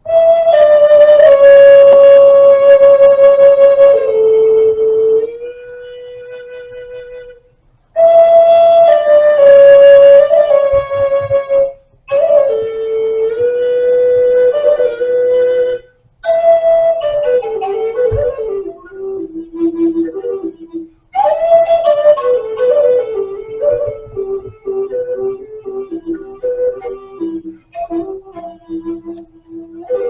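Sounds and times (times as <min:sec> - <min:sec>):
flute playing slow melody: 0:00.0 - 0:30.0.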